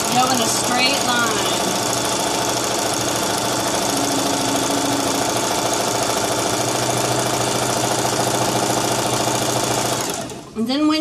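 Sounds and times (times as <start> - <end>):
electric sewing machine running: 0.0 - 10.6.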